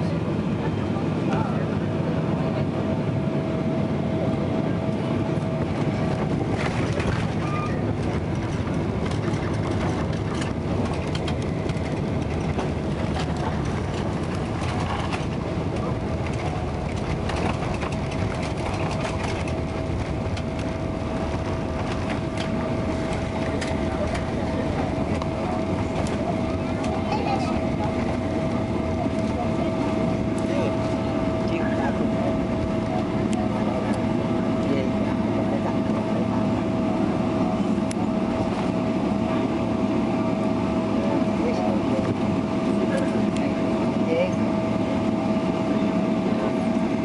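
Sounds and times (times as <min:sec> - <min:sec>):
airliner cabin engine roar: 0:00.0 - 0:47.0
constant hum tone: 0:00.0 - 0:47.0.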